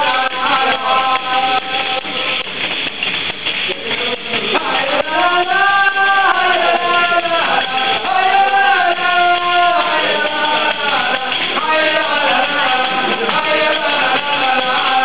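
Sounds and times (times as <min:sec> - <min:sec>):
group singing folk song: 0:00.0 - 0:15.0
hand drums shaking: 0:00.0 - 0:15.0.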